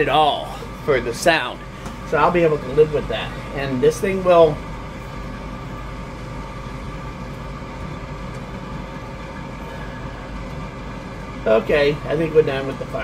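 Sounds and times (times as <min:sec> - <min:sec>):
blower motor humming: 0:00.0 - 0:13.0.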